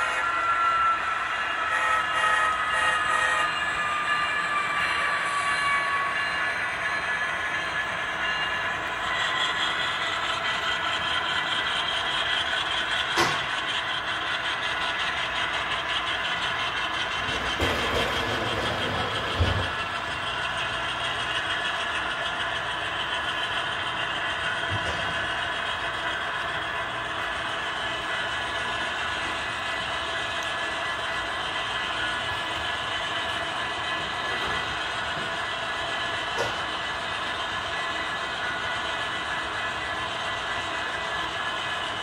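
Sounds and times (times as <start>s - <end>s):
model train wheels on track: 0.0s - 42.0s.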